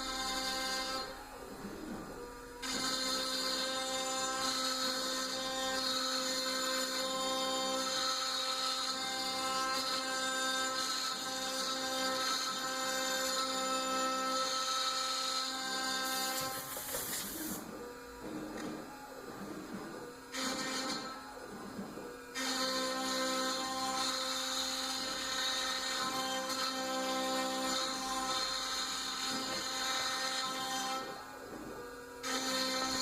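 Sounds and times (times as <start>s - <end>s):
router machine whine: 0.0s - 33.0s.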